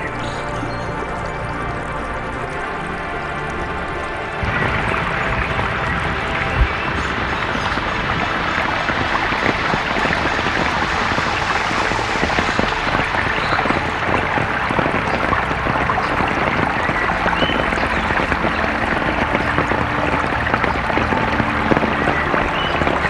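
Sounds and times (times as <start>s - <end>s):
dense rush of water: 4.2s - 23.0s.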